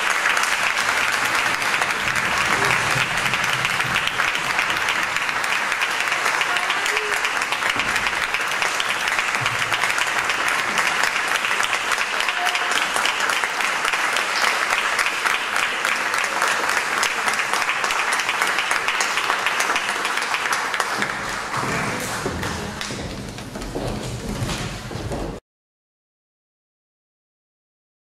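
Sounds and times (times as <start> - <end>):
audience applauding: 0.0 - 24.5.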